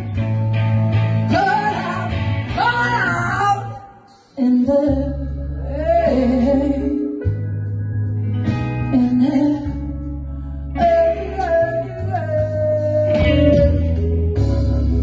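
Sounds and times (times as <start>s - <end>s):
electric guitar blues solo: 0.0s - 3.9s, 5.6s - 15.0s
bass and band backing: 0.0s - 15.0s.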